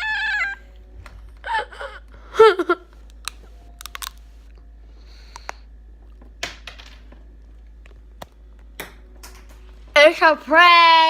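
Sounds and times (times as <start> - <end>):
steady low hum: 0.5 - 10.6.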